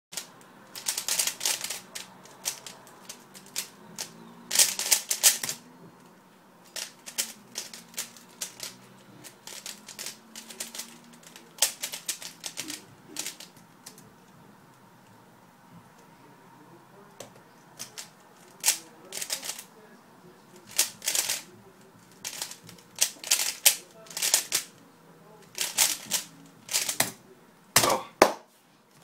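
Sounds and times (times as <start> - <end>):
puzzle cube clacking: 0.2 - 14.4, 17.2 - 19.7, 20.5 - 28.4.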